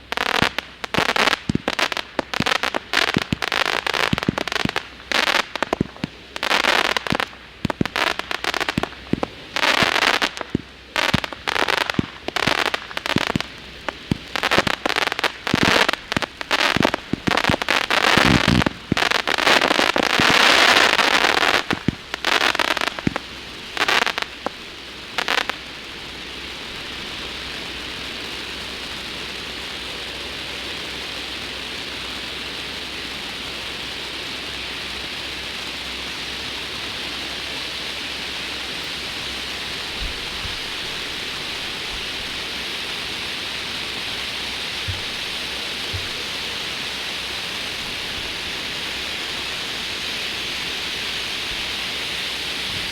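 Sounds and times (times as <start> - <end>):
fireworks crackling and popping: 0.0 - 52.9
steady hiss: 0.0 - 52.9.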